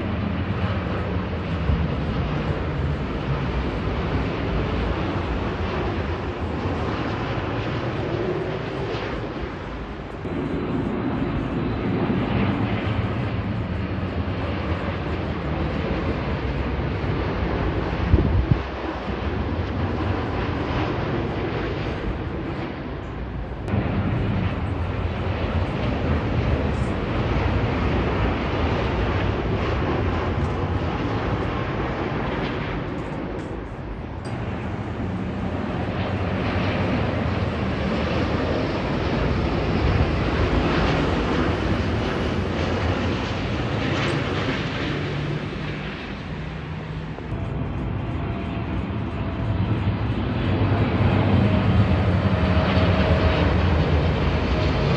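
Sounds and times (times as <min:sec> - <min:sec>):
jet airliner passing: 0:00.0 - 0:54.9.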